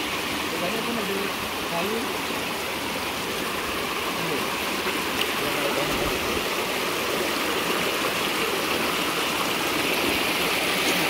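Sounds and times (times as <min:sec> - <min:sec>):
stream splashing over stones: 0:00.0 - 0:11.0.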